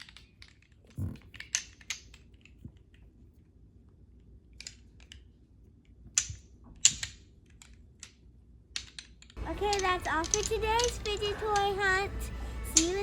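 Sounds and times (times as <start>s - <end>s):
fidget toy plastic clicks: 0.0s - 3.0s, 4.5s - 12.0s, 12.6s - 13.0s.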